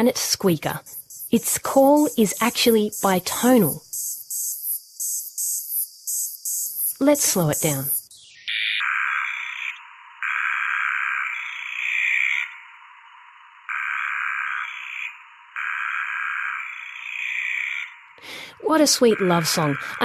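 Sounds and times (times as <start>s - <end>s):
cicada bitonal call: 0.0s - 18.2s, 18.8s - 20.0s.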